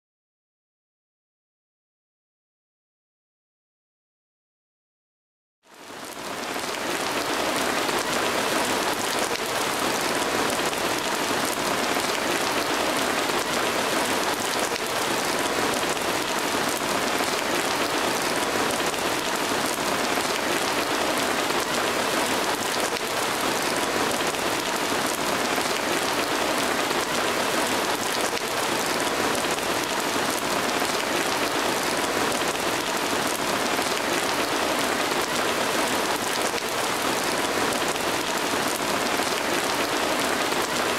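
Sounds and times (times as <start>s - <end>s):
heavy rain pattering: 5.7s - 40.9s.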